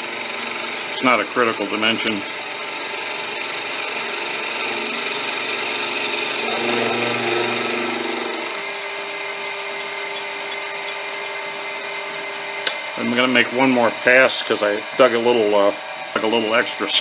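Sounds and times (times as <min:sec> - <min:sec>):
milling machine cutting metal: 0:00.0 - 0:14.3.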